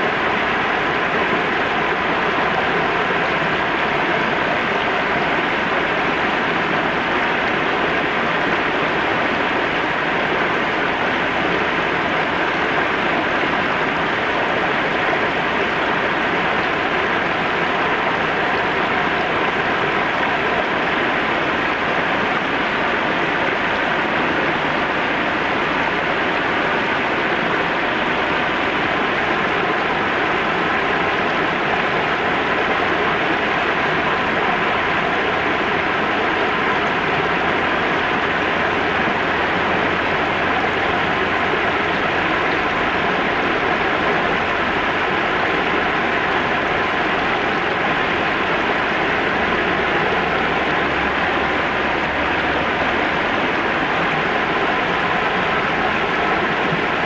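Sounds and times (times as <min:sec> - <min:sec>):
river water rushing over rapids: 0:00.0 - 0:57.0.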